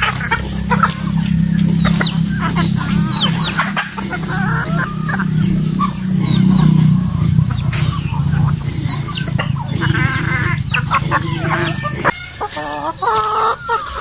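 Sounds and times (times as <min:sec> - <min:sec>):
chickens clucking and calling: 0:00.0 - 0:14.0
steady low hum: 0:00.0 - 0:14.0.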